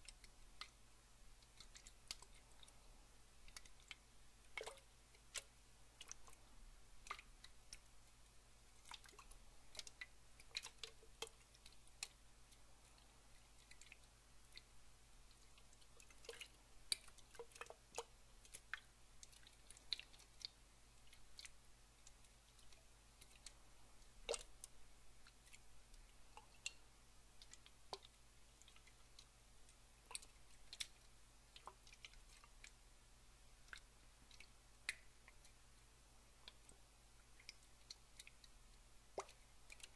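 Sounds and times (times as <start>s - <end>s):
wet clicks: 0.0s - 0.8s, 1.4s - 2.8s, 3.4s - 14.7s, 15.3s - 32.8s, 33.6s - 39.9s
water dripping: 0.0s - 39.9s.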